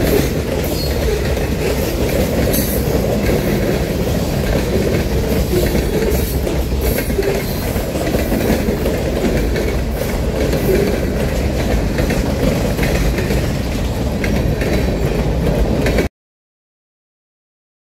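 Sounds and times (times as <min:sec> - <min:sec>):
train wheels rumbling on rails: 0:00.0 - 0:16.1
wheels clacking over rail joints: 0:00.0 - 0:16.1.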